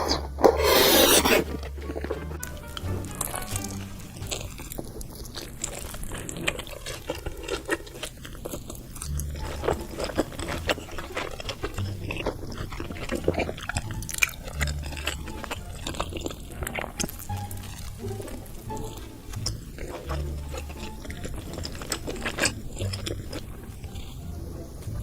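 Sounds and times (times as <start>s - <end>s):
chewing and biting food: 0.0s - 25.0s.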